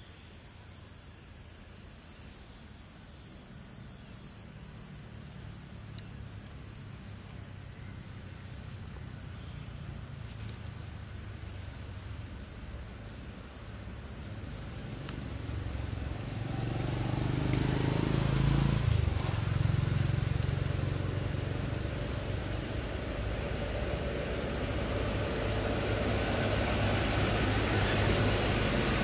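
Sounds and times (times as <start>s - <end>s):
vehicle engine rumble: 4.8s - 29.0s.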